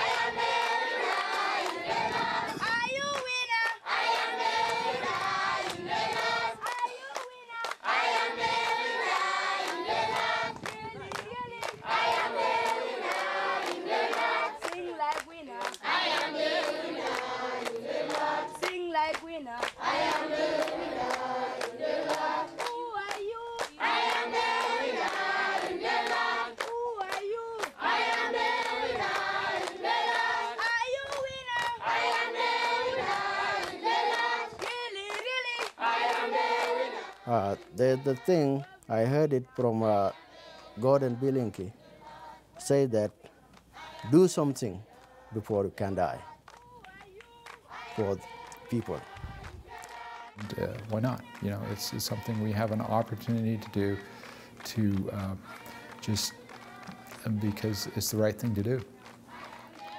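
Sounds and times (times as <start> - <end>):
hand claps: 0.0 - 37.7, 46.0 - 59.9
group of voices singing: 0.0 - 59.9.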